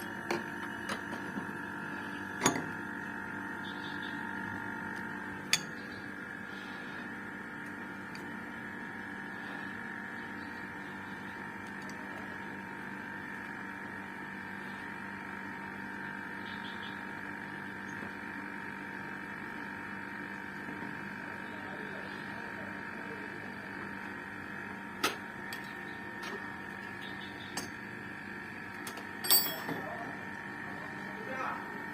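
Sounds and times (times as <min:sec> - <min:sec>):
air conditioner humming: 0:00.0 - 0:31.9.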